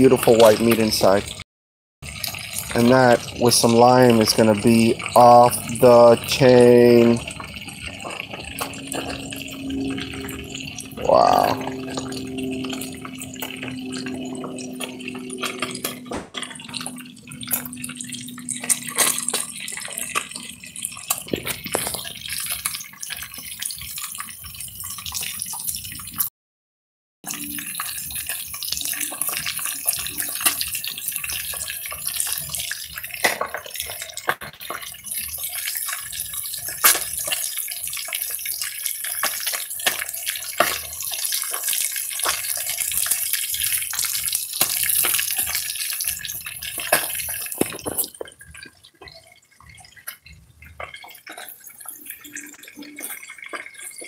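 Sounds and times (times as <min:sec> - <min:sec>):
fish deep-frying in hot oil: 0:00.0 - 0:01.4, 0:02.0 - 0:26.3, 0:27.2 - 0:54.0.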